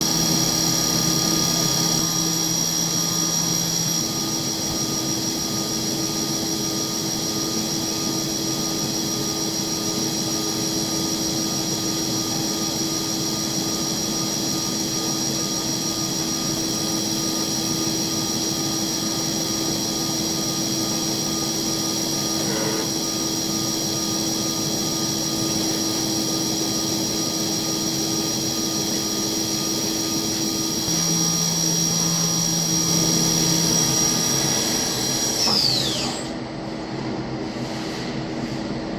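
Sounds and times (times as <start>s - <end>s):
cnc spindle whine: 0.0s - 37.4s.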